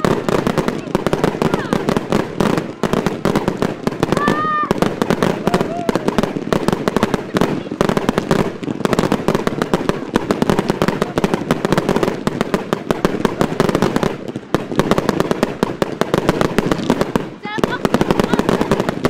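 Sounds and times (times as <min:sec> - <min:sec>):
fireworks bursting and crackling: 0:00.0 - 0:19.0.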